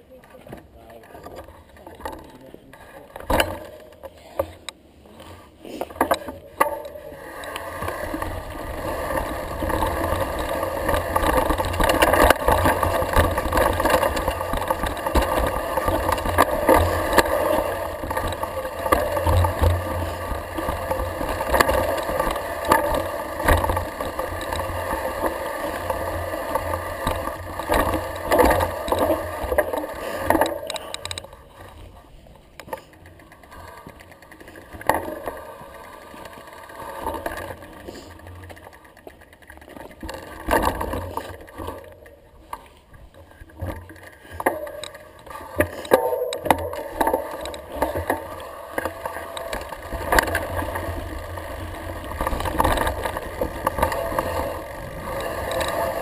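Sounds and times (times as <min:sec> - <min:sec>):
bike rattling and clicking: 0:00.0 - 0:56.0
bike tyres rumbling on dirt: 0:00.0 - 0:56.0.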